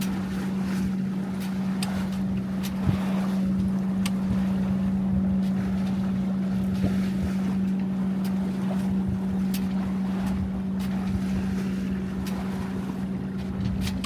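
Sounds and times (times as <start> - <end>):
steady low hum: 0.0 - 14.0
water noise: 0.0 - 14.0
wind: 0.0 - 14.0.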